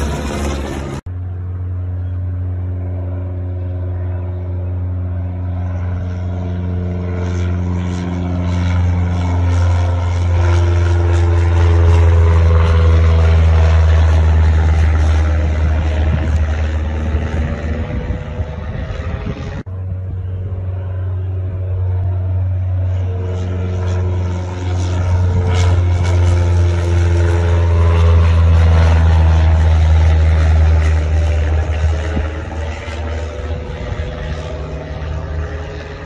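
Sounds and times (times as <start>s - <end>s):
propeller plane flying over: 0.0s - 36.0s.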